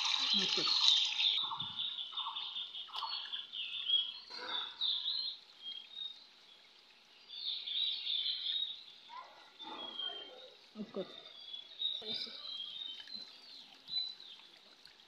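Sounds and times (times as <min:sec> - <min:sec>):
birds chirping: 0:00.0 - 0:14.8.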